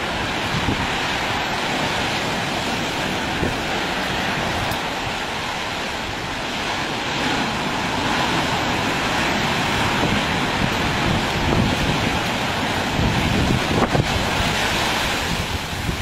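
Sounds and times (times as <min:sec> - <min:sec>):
surf breaking on shore: 0:00.0 - 0:16.0
wind blowing over microphone: 0:00.0 - 0:16.0.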